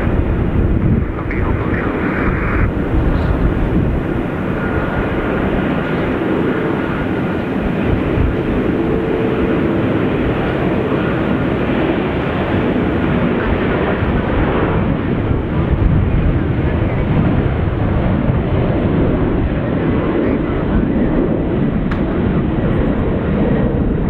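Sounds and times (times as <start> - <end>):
jet engines roaring with whine: 0.0 - 24.0.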